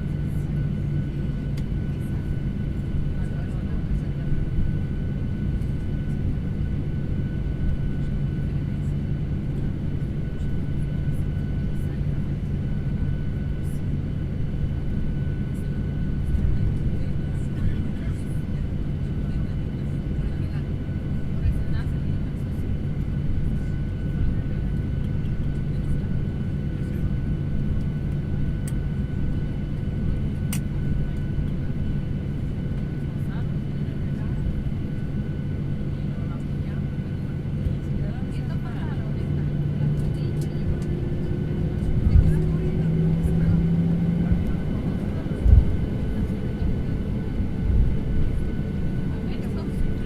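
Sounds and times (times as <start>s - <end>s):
engine and air system rumble: 0.0s - 50.0s.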